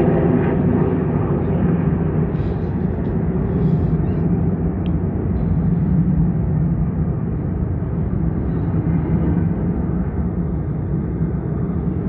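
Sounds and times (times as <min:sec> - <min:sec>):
jet aircraft rumbling overhead: 0:00.0 - 0:12.0.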